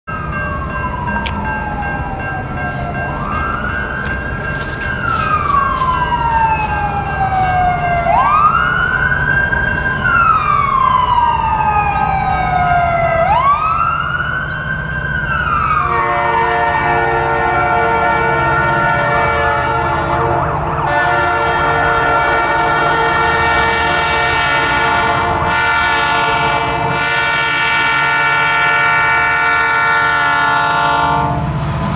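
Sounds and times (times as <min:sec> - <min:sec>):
emergency vehicle siren wailing: 0:00.1 - 0:31.9.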